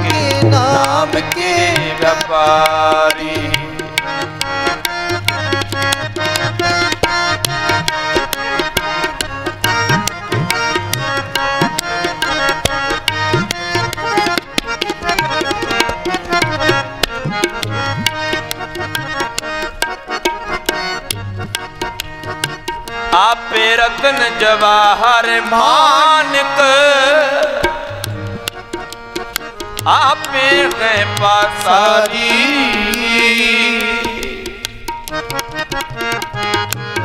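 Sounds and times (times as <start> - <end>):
fast tabla strokes: 0.0 - 37.0
harmonium reed melody: 0.0 - 37.0.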